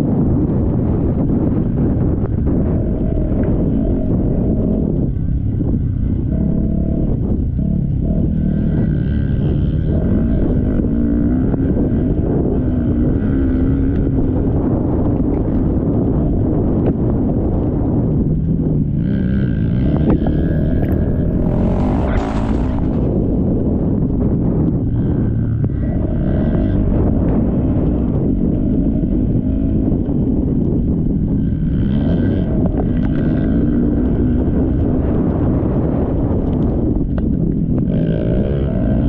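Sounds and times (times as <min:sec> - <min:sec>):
motocross bike engines revving: 0:00.1 - 0:39.0.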